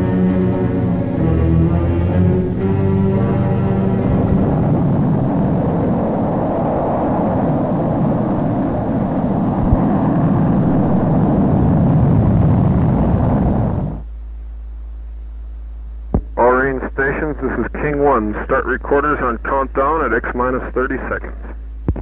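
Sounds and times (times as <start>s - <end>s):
rocket engine roar: 0.0s - 14.1s, 16.1s - 22.0s
low hum: 0.0s - 22.0s.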